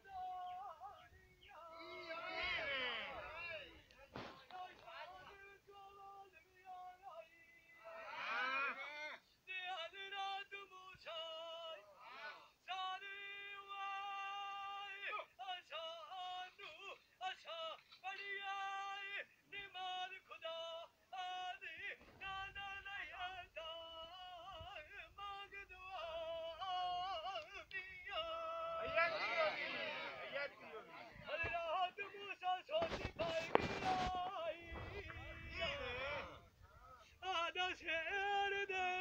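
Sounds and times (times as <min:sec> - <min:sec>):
man singing unaccompanied: 0:00.0 - 0:08.0, 0:09.4 - 0:12.0, 0:12.6 - 0:29.6, 0:31.2 - 0:39.0.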